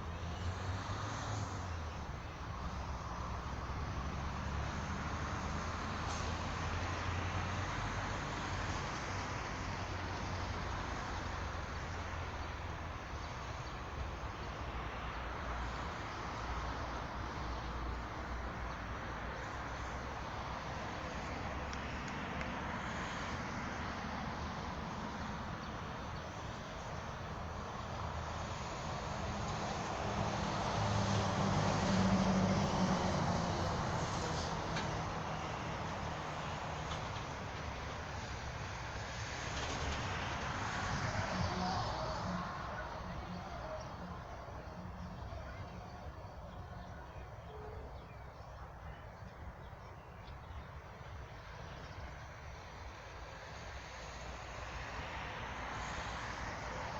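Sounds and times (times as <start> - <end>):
distant road traffic: 0.0 - 56.9.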